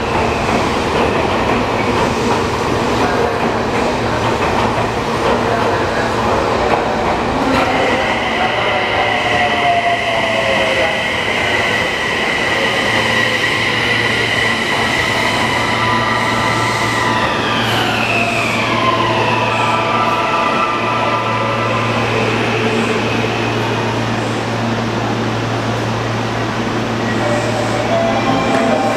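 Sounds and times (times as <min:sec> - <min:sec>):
subway train braking: 0:00.0 - 0:28.9.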